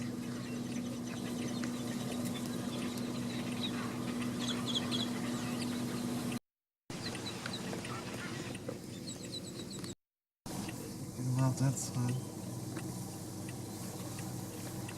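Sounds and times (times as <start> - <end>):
steady low hum: 0.0 - 6.4, 7.0 - 14.9
birds calling: 0.0 - 10.0, 10.6 - 14.9.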